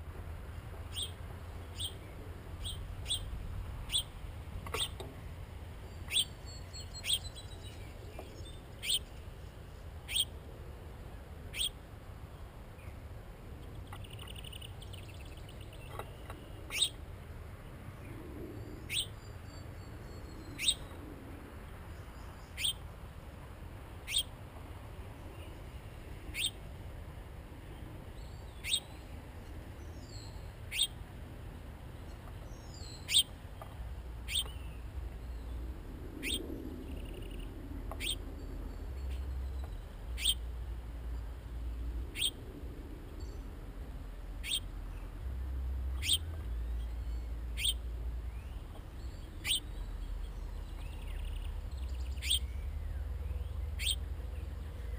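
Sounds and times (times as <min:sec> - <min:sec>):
low background rumble: 0:00.0 - 0:54.9.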